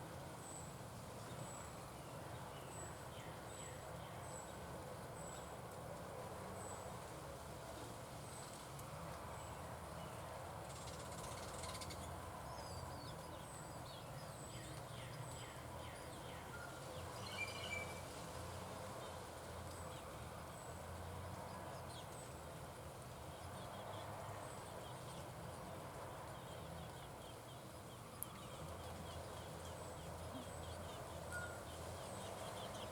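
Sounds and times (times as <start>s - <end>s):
small birds chirping: 0.4s - 5.7s, 8.2s - 32.9s.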